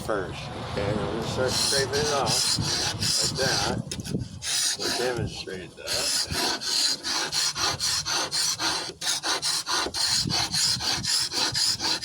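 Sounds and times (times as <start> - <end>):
hand scraper scraping a door: 1.4 - 12.0.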